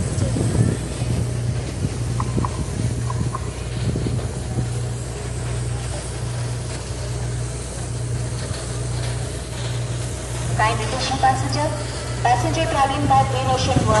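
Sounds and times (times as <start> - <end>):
low mechanical hum: 0.0 - 14.0
wind buffeting microphone: 0.0 - 14.0.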